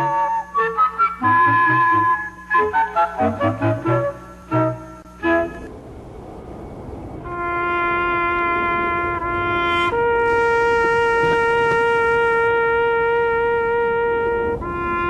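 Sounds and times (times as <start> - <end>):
brass instrument long notes: 0.0 - 5.7, 7.2 - 15.0.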